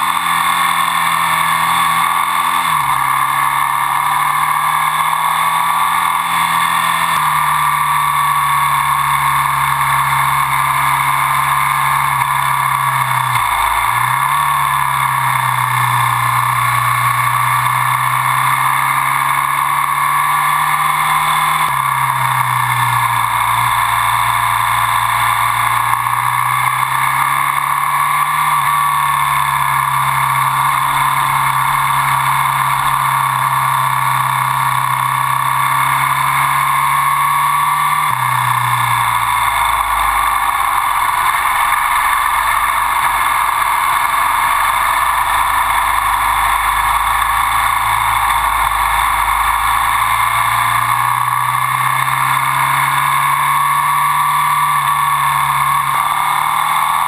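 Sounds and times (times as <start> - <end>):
motorcycle engine at speed: 0.0 - 57.0
wind and road noise: 0.0 - 57.0.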